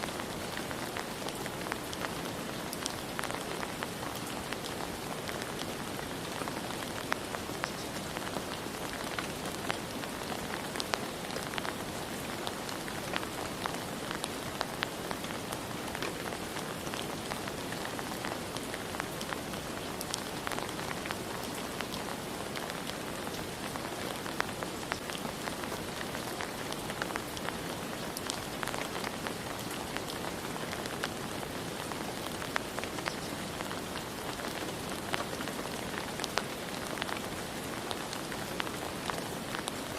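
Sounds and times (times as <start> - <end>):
rain falling: 0.0 - 39.9
raindrops ticking: 0.1 - 39.9.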